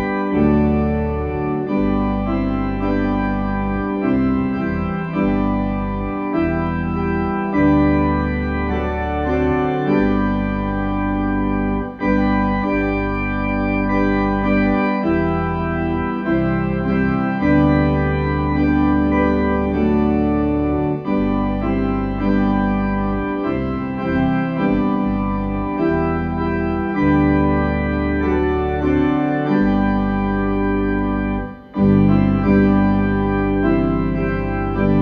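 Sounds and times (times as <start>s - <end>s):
organ playing sustained chords: 0.0s - 35.0s.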